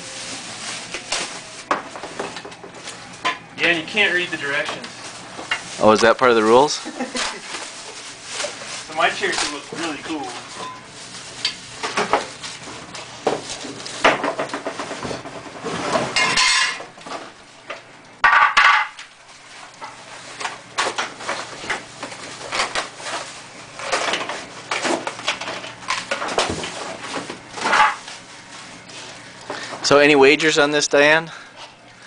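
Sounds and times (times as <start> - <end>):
plastic wrapping and cardboard rustling: 0.0 - 16.2, 19.1 - 30.3.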